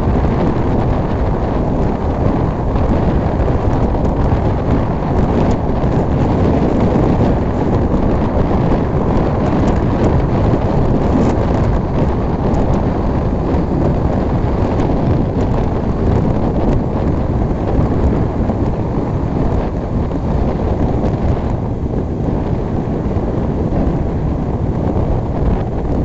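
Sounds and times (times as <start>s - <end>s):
road noise: 0.0s - 26.0s
wind rumble on microphone: 0.0s - 26.0s.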